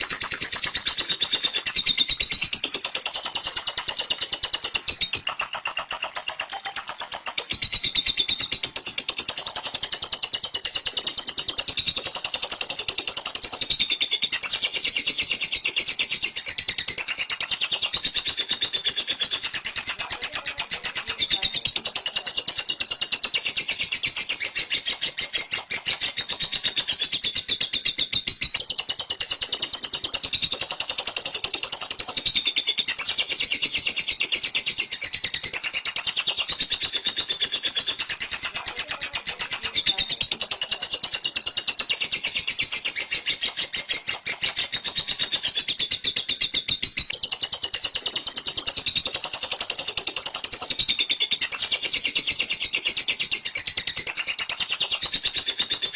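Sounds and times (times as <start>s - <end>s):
lovebird chattering: 0.0s - 55.9s.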